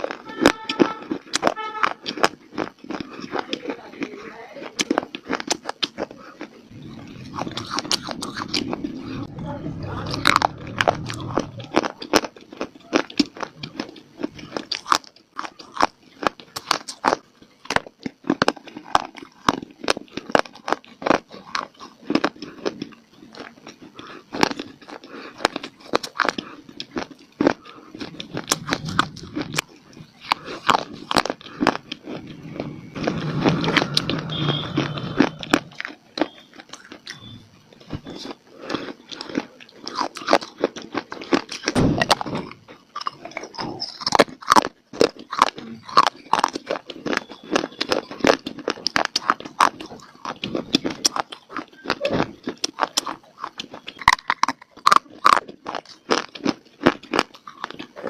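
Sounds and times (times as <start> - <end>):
person chewing crunchy clay: 0.0 - 58.0.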